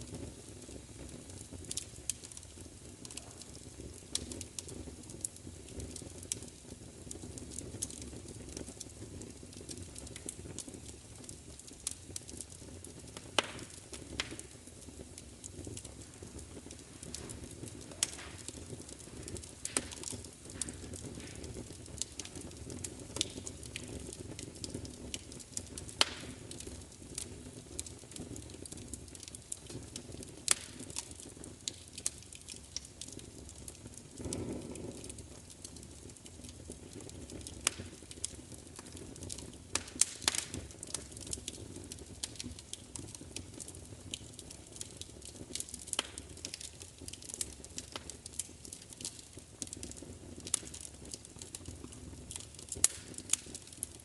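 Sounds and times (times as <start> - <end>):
low rumble of burning: 0.0 - 54.0
sharp pops of fire: 0.0 - 54.0
wood fire crackling: 0.0 - 54.0.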